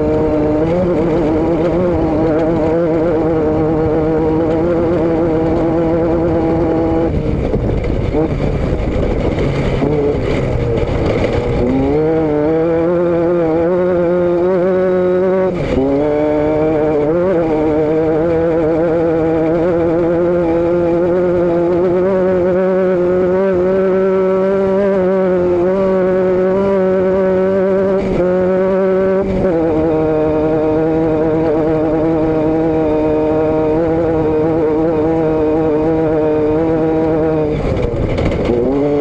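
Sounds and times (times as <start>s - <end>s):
vehicle engine and exhaust cruising: 0.0s - 39.0s.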